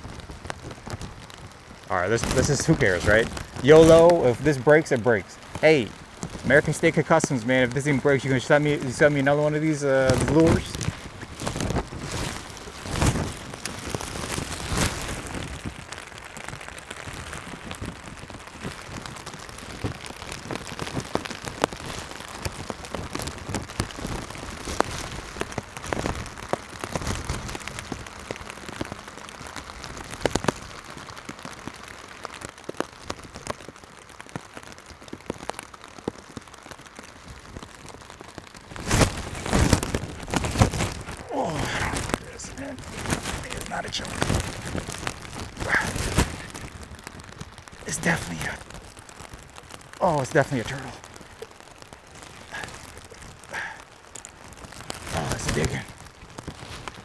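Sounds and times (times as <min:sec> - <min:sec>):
poncho rustling: 0:00.0 - 0:32.4, 0:35.8 - 0:57.0
rain pattering on water and poncho: 0:00.0 - 0:57.0.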